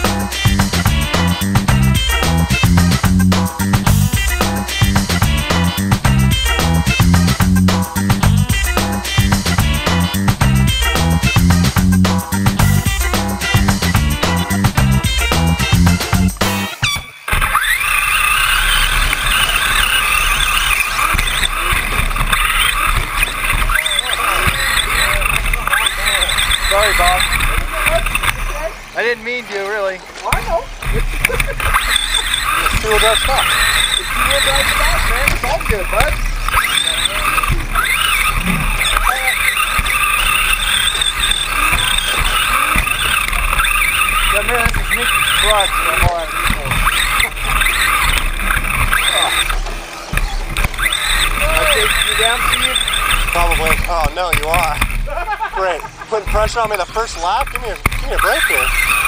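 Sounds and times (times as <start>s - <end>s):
rc truck motor whining: 0.0s - 59.0s.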